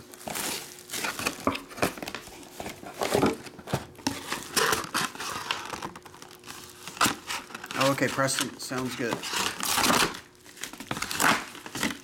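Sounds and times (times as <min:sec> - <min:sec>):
plastic shrink wrap crinkling: 0:00.0 - 0:12.0.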